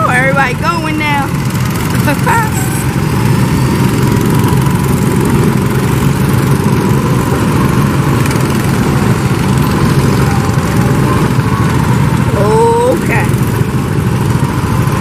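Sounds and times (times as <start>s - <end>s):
go-kart engines running: 0.0s - 15.0s.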